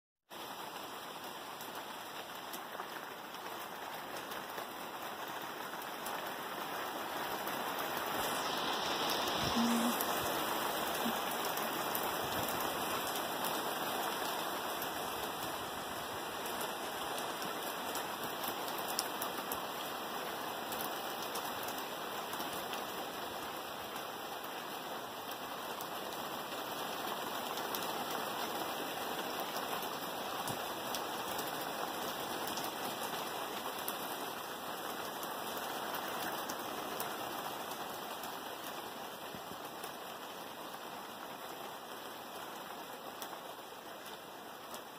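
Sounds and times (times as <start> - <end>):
steady rain falling: 0.3 - 44.9.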